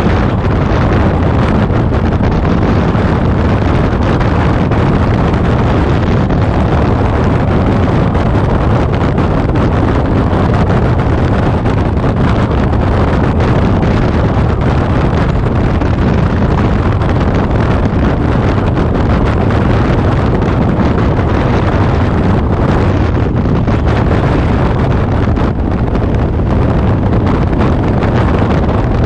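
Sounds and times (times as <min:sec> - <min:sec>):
motorcycle engine: 0:00.0 - 0:29.0
road noise: 0:00.0 - 0:29.0
wind rush on microphone: 0:00.0 - 0:29.0.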